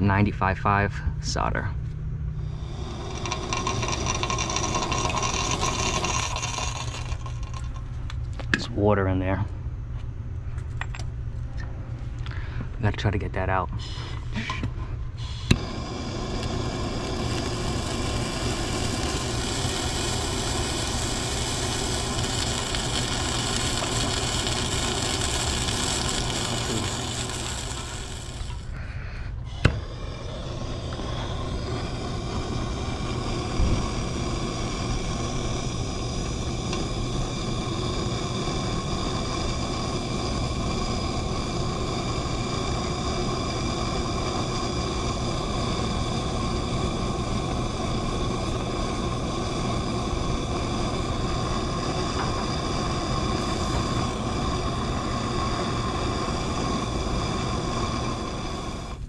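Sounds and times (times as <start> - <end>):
hand torch hissing: 2.4 - 7.9, 13.8 - 59.0.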